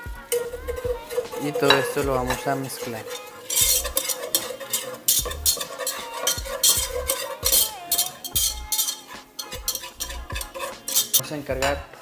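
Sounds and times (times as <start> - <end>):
roux sizzling: 0.0 - 12.0
utensil scraping a pan: 0.0 - 12.0.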